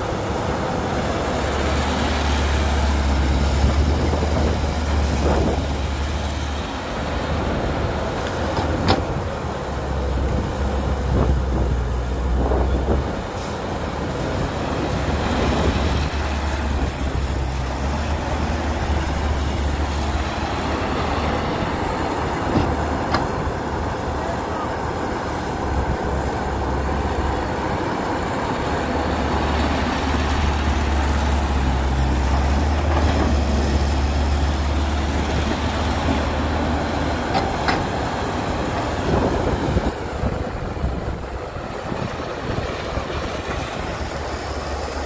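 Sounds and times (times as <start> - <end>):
excavator diesel engine rumbling: 0.0 - 45.0.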